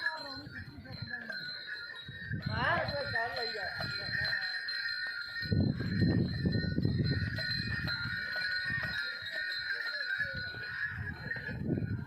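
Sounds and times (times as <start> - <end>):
small bells ringing: 0.0 - 12.0.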